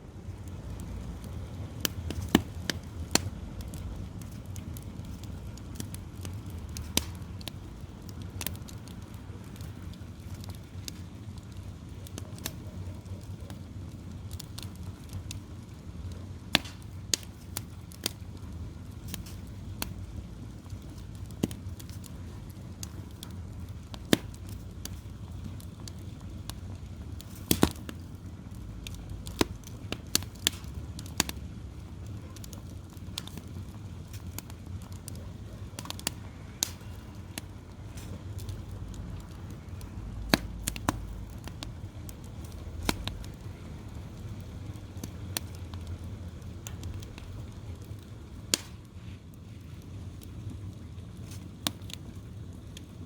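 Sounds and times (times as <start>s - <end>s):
fire crackling and popping: 0.0s - 53.0s.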